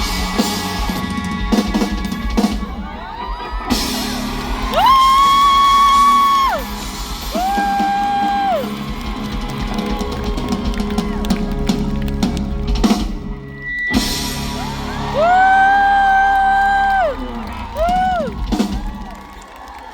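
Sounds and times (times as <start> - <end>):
drum kit: 0.0 - 19.9.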